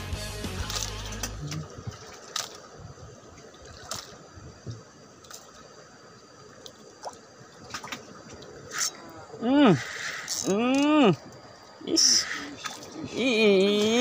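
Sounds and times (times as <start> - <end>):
water lapping against boat: 0.6 - 14.0.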